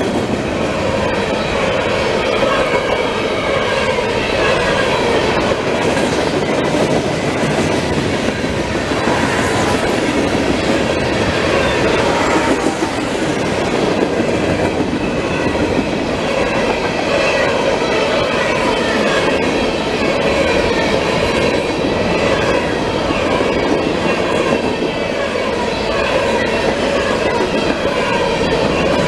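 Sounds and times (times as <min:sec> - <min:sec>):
freight train cars rolling past: 0:00.0 - 0:29.0.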